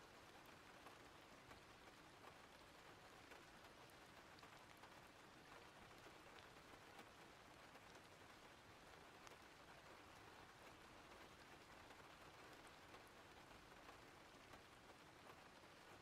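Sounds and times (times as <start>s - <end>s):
faint steady rain hiss: 0.0s - 16.0s.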